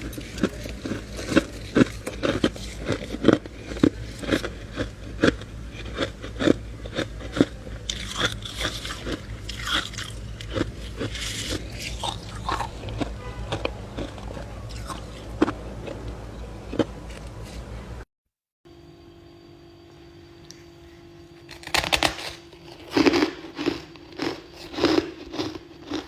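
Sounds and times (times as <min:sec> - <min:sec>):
frost being bitten and chewed: 0:00.0 - 0:17.3, 0:21.5 - 0:26.0.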